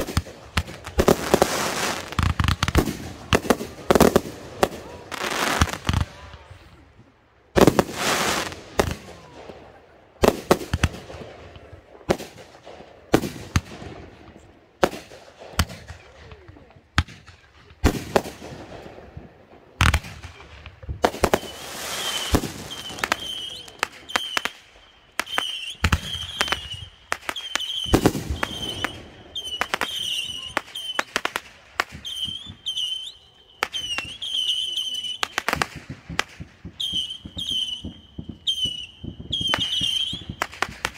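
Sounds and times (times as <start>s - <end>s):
firework bangs: 0.0s - 6.5s, 7.5s - 16.3s, 16.9s - 40.9s.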